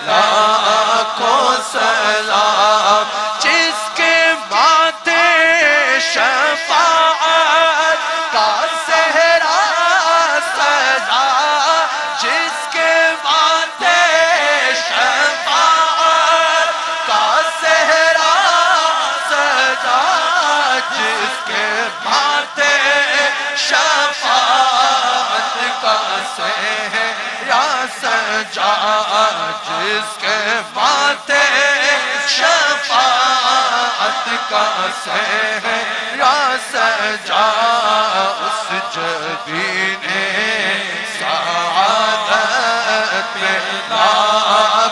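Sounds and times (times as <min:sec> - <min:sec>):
men chanting a melody: 0:00.0 - 0:44.9.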